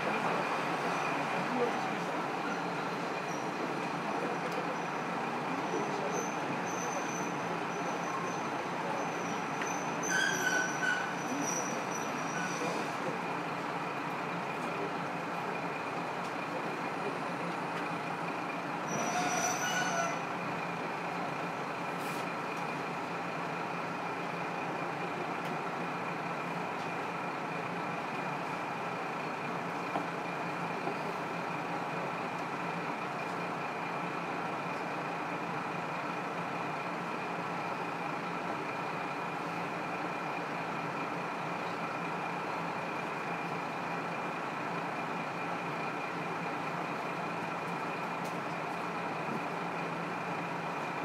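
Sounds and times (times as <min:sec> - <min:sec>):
diesel railcar engine drone: 0:00.0 - 0:51.0
train running noise: 0:00.0 - 0:51.0.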